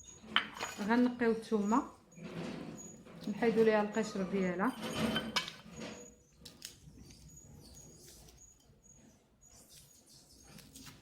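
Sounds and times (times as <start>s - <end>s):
faint high squeaks: 1.6s - 11.0s.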